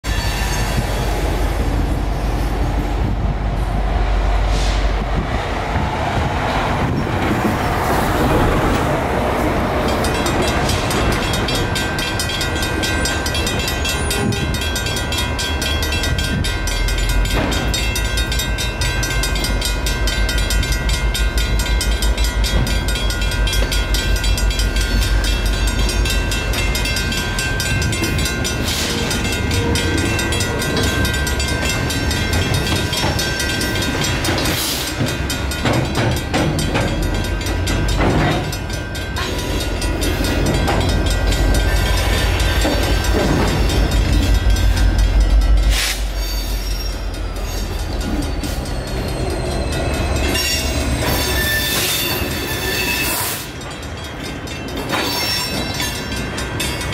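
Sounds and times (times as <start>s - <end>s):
railroad crossing bells ringing: 0.0s - 4.7s, 6.8s - 56.9s
low rumble of a train: 0.0s - 56.9s.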